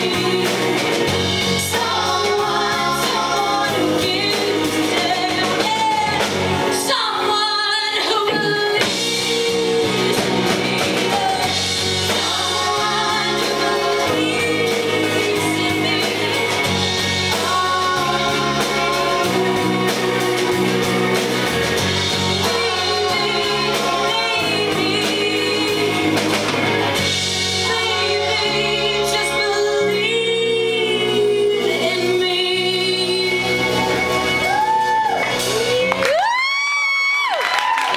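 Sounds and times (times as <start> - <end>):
woman singing: 0.0 - 20.9, 22.2 - 26.3, 27.6 - 33.9
bass notes: 0.0 - 36.4
live band playing: 0.0 - 37.9.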